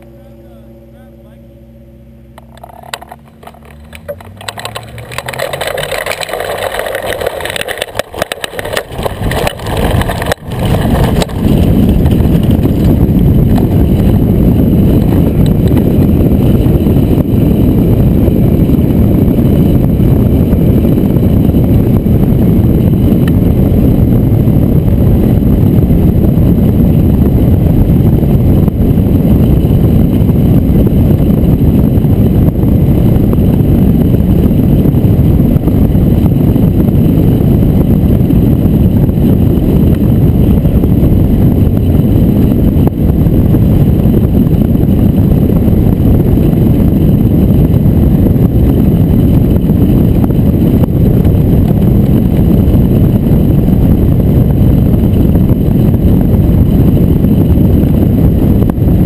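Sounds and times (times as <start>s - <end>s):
tow plane engine: 0.0s - 59.0s
wind rushing over microphone: 0.0s - 59.0s.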